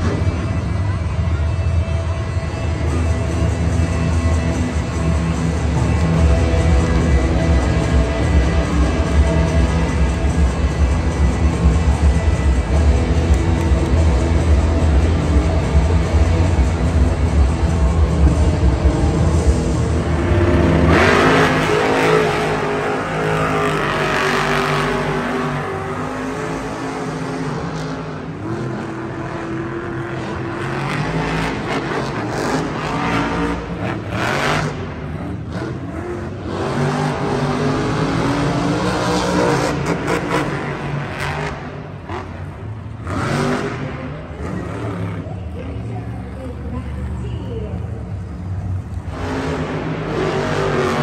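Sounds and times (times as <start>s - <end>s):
truck engines revving: 0.0s - 51.0s.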